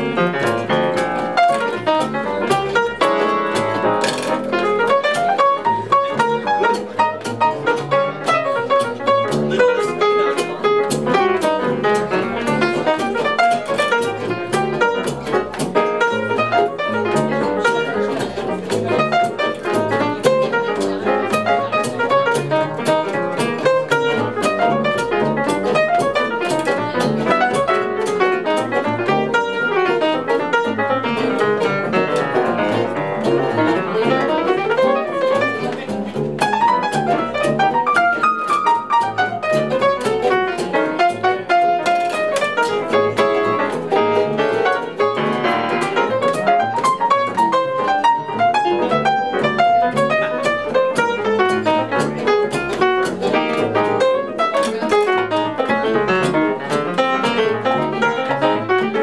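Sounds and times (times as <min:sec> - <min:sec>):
guitar: 0:00.0 - 0:59.0
piano: 0:00.0 - 0:59.0
plucked double bass: 0:00.0 - 0:59.0.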